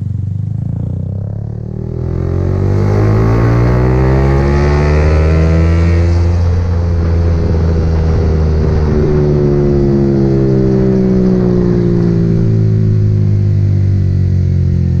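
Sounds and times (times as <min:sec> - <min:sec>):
motorcycle engine running: 0:00.0 - 0:15.0
rushing noise: 0:01.7 - 0:14.2.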